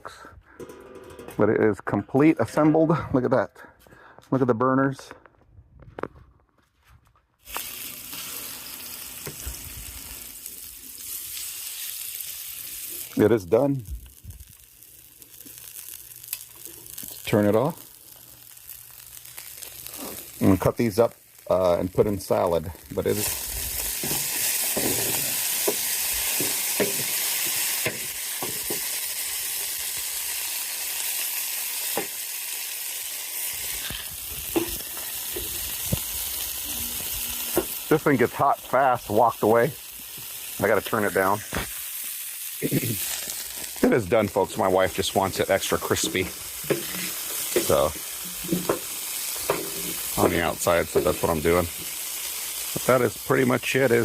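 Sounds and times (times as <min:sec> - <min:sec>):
food sizzling in a pan: 0:07.4 - 0:54.0.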